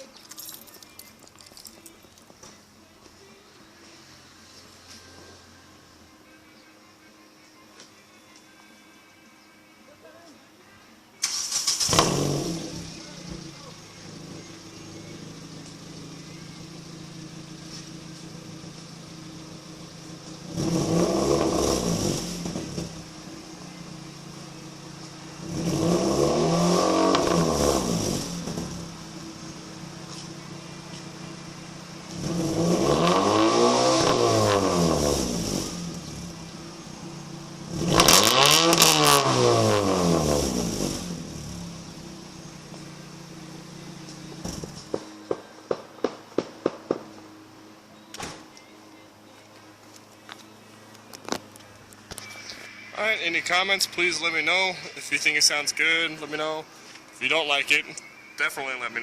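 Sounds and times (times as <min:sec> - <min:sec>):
car engine idling and revving: 0:11.2 - 0:59.0.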